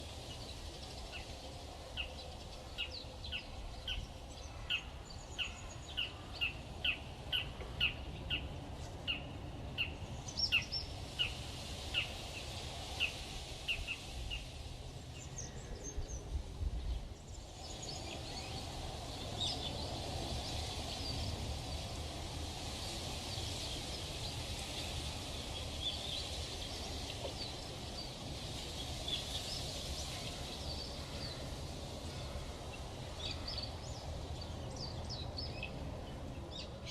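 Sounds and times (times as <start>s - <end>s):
outdoor background noise: 0.0s - 36.9s
steady hiss: 0.0s - 36.9s.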